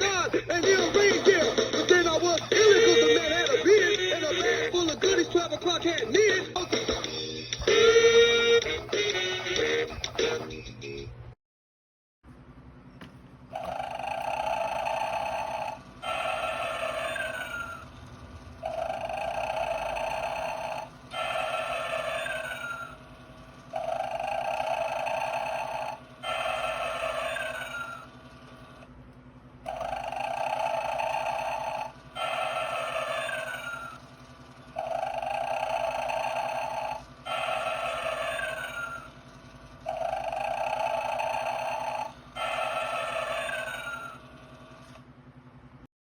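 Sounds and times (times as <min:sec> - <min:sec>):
steady low hum: 0:00.0 - 0:11.4, 0:12.3 - 0:45.9.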